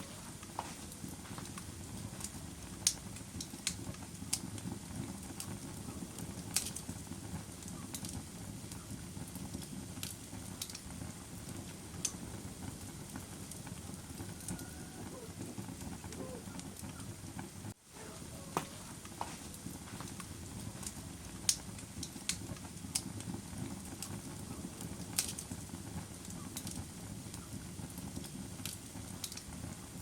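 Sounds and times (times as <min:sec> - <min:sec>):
low rumble of burning fire: 0:00.0 - 0:30.0
wood fire popping: 0:00.0 - 0:30.0.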